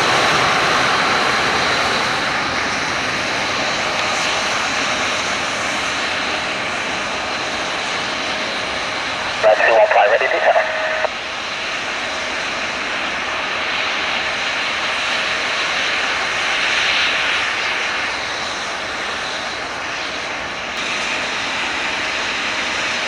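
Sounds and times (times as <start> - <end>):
jet engine rushing whine: 0.0 - 23.0.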